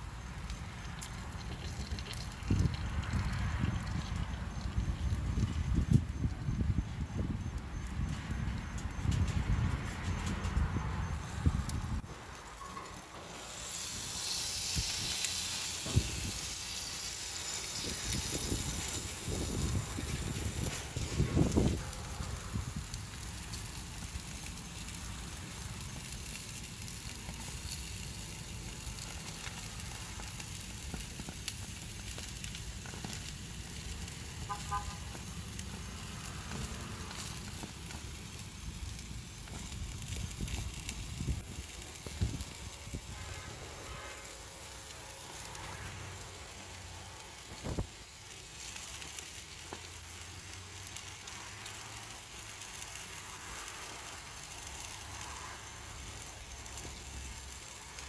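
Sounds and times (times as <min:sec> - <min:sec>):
steak sizzling on grill: 0:00.0 - 0:58.0.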